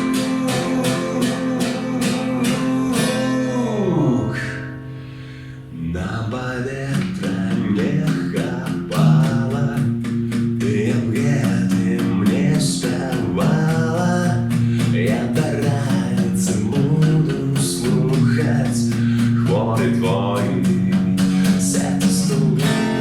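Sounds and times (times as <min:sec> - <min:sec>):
person singing lead vocal: 0:00.0 - 0:04.8, 0:05.7 - 0:23.0.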